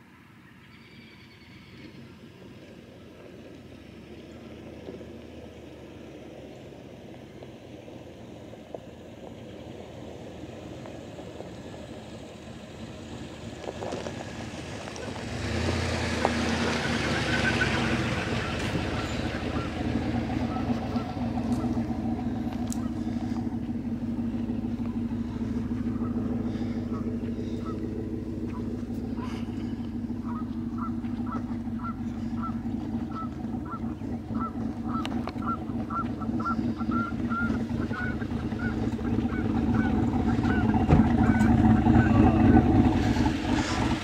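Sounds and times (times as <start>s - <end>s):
car engine humming: 0.0s - 44.0s
tyres on dirt track: 0.0s - 44.0s.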